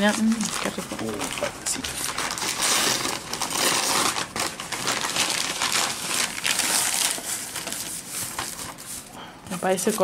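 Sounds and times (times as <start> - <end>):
paper crinkling and rustling: 0.0 - 9.2.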